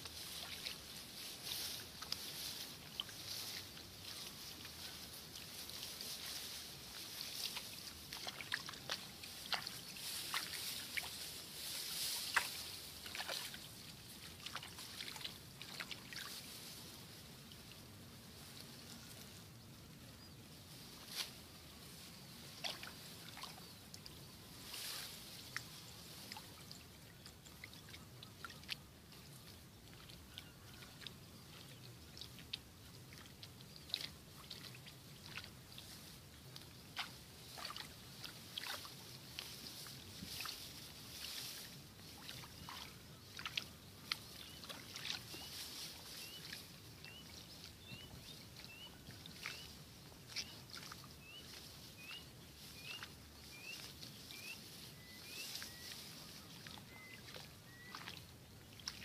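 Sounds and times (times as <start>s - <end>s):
rustling leaves and stems: 0.0s - 59.0s.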